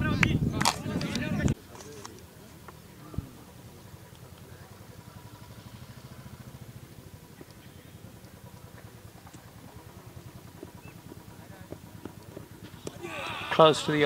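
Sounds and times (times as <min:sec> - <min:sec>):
faint engine idling: 0:00.0 - 0:14.0.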